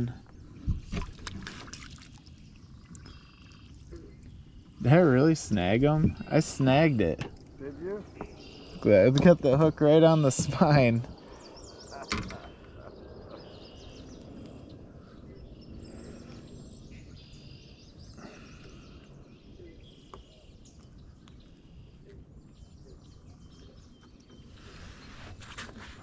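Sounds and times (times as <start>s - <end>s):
low wind rumble: 0.0s - 26.0s.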